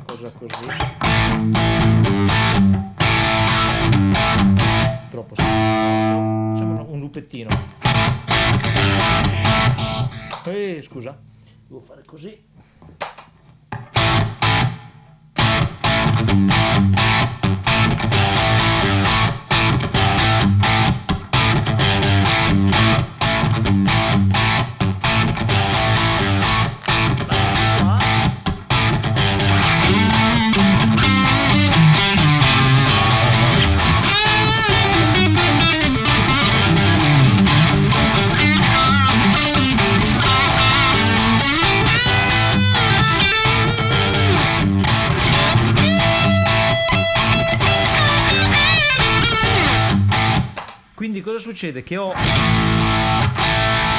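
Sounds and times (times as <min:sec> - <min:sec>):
distorted electric guitar riff: 0:00.0 - 0:06.8, 0:07.6 - 0:10.5, 0:13.8 - 0:50.7, 0:52.2 - 0:53.9.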